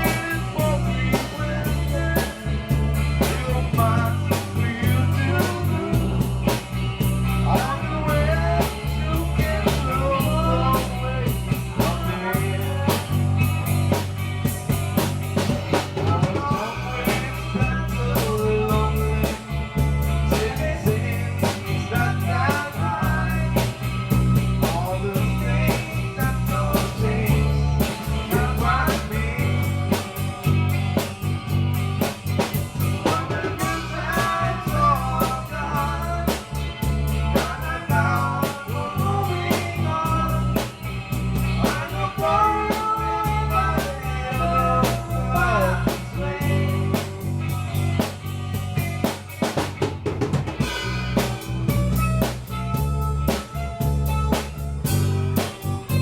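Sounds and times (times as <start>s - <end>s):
bass line: 0.0s - 56.0s
drum kit beat: 0.0s - 56.0s
electric guitar melody: 0.0s - 56.0s.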